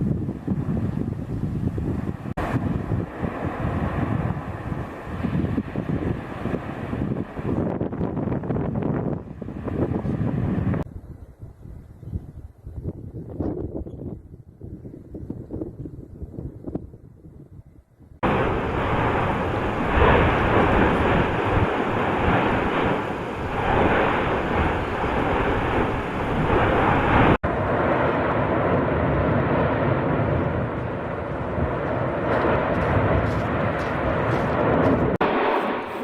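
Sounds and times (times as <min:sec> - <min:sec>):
volcanic eruption rumble: 0:00.0 - 0:36.0.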